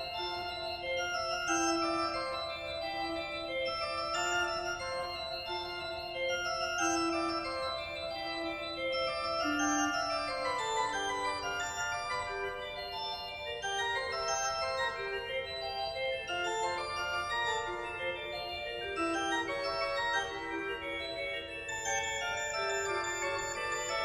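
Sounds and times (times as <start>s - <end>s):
instrumental keyboard music: 0.0s - 24.0s.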